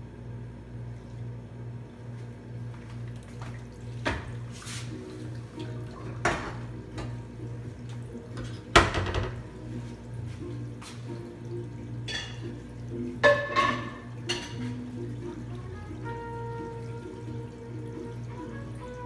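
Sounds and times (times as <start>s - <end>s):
water and dishes at sink: 2.7s - 19.0s.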